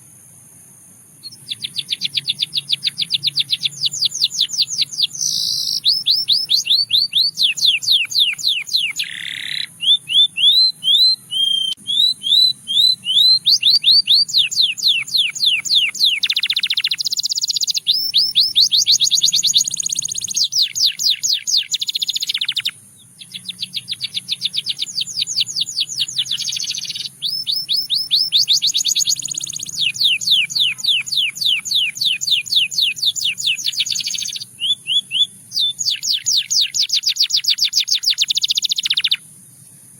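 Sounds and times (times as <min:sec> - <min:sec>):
canary singing trills: 0:01.2 - 0:39.9.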